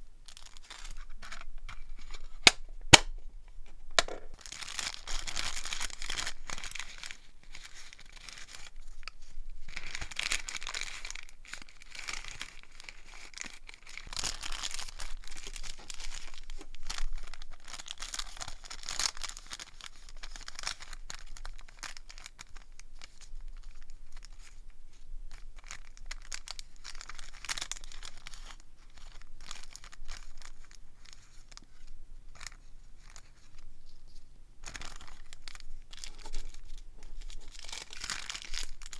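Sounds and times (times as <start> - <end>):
plastic bags crinkling: 0.2 - 3.0, 4.0 - 24.7, 25.3 - 38.9.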